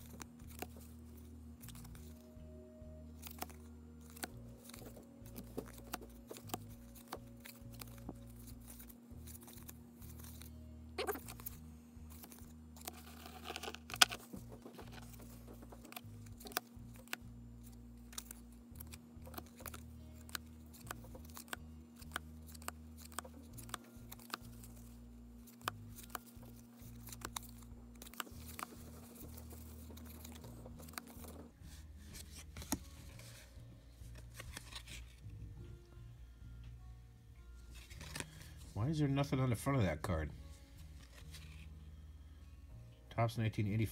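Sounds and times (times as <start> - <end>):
cards flipping with light snaps: 0.0 - 2.4, 3.1 - 35.4, 37.7 - 38.8, 40.8 - 41.7
steady low hum: 0.0 - 43.9.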